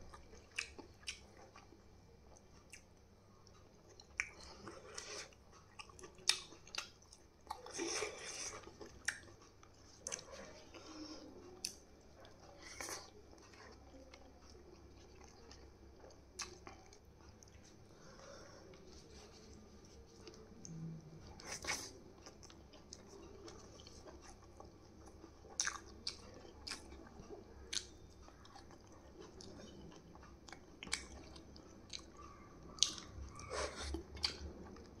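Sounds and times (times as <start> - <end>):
person chewing: 0.0 - 35.0.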